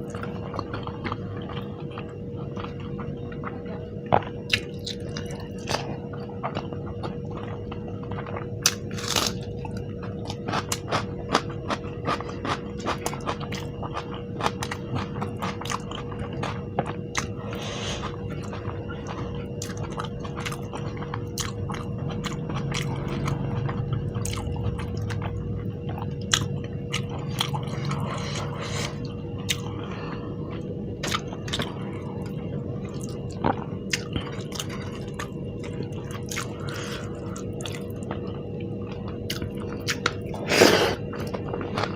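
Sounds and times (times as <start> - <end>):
chewing and biting food: 0.0 - 41.9
faint steady hum: 0.0 - 41.9.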